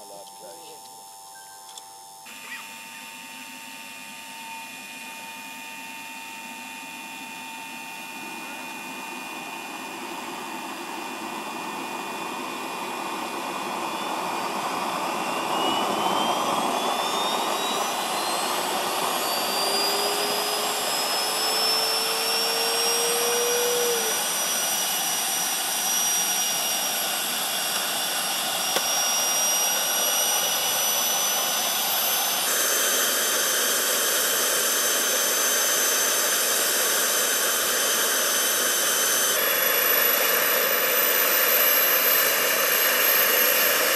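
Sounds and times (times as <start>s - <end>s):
model turbine whine: 0.0s - 43.9s.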